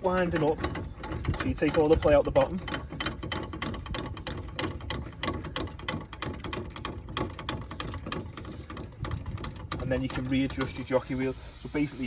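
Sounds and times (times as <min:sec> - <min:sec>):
crank mechanism clicking and rattling: 0:00.0 - 0:12.0.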